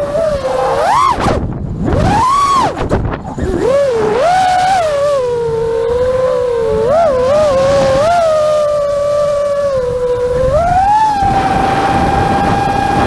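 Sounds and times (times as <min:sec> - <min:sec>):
drone propellers whining: 0:00.0 - 0:13.0
wind rumble on microphone: 0:00.0 - 0:13.0.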